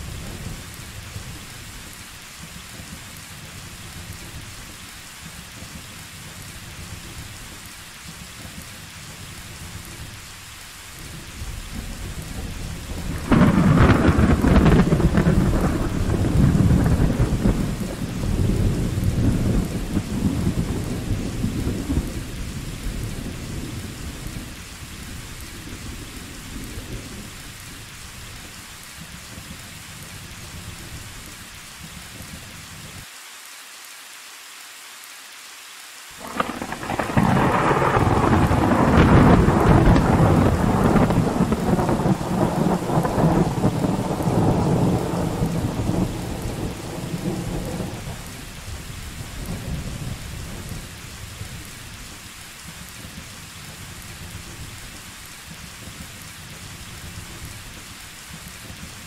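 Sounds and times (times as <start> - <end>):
thunder crack and rumble: 0.0 - 10.3, 10.9 - 32.5, 36.2 - 59.0
steady rain: 0.0 - 59.0.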